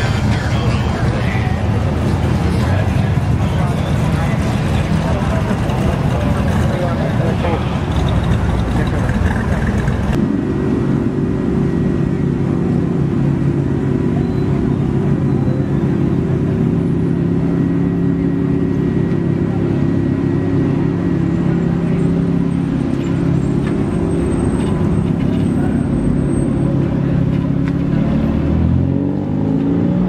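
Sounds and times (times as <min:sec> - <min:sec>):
car engine idling: 0:00.0 - 0:28.0
street traffic: 0:00.0 - 0:30.0.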